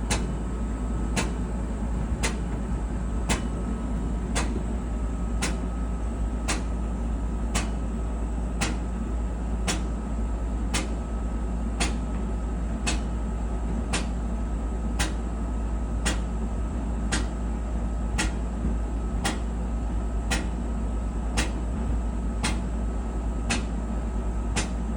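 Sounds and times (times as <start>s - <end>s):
clothes dryer humming and rumbling: 0.0s - 24.9s.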